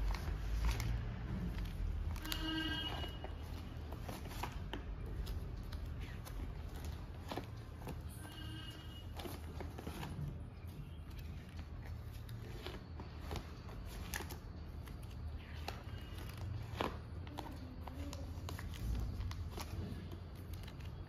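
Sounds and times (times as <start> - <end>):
binder pages rustling: 0.0 - 21.0.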